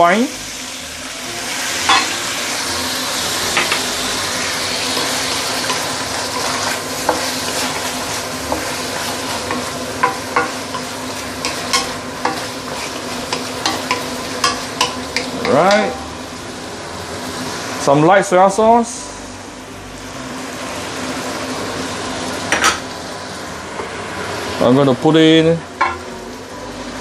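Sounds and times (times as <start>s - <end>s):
chicken sizzling in a wok: 0.0s - 27.0s.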